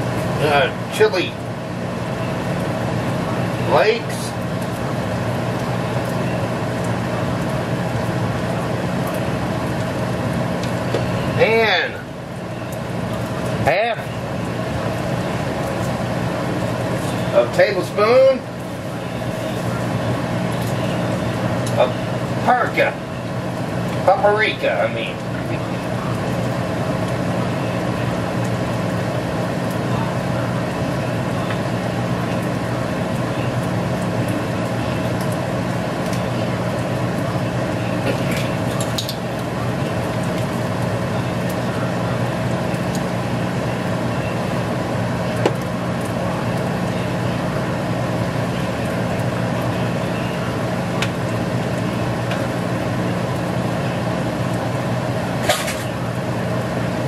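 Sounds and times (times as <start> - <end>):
mechanical hum with hiss: 0.0 - 57.0.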